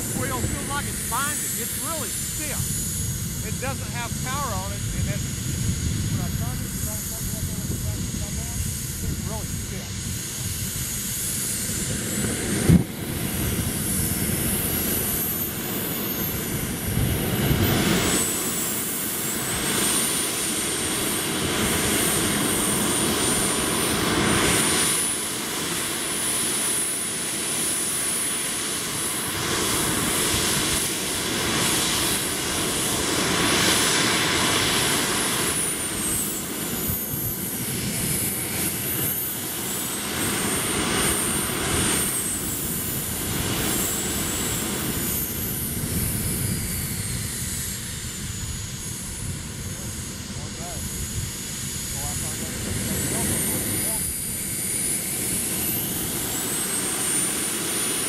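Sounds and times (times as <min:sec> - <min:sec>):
model jet turbine whine: 0:00.0 - 0:58.0.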